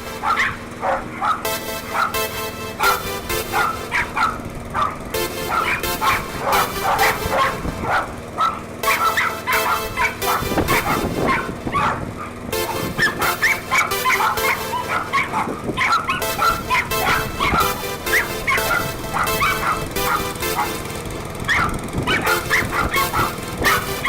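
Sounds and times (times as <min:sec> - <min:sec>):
background music: 0:00.0 - 0:11.7, 0:12.4 - 0:24.0
dog barking and yipping: 0:00.0 - 0:20.9, 0:21.5 - 0:24.0.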